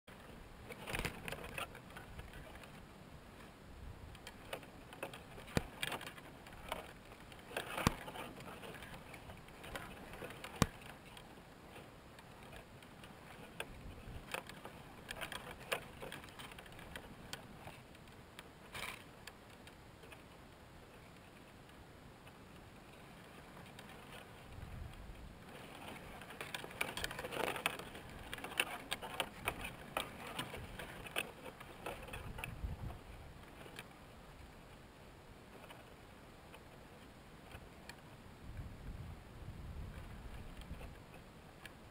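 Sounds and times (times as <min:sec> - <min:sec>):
faint clicks and ticks: 0:00.1 - 0:38.7, 0:39.8 - 0:41.9
rustling of dry grass: 0:00.1 - 0:41.9.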